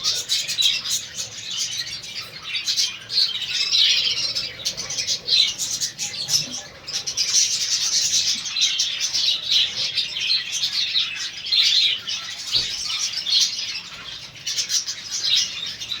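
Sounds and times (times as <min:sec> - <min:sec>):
budgerigars chattering and chirping: 0:00.0 - 0:16.0.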